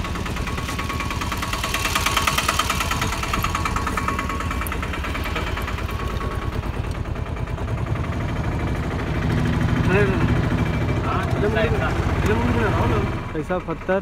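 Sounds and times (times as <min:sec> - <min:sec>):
auto-rickshaw engine running: 0:00.0 - 0:14.0.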